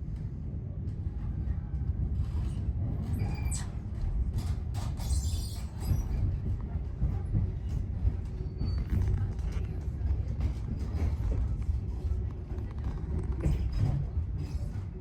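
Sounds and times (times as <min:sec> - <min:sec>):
train coach rumbling: 0:00.0 - 0:15.0.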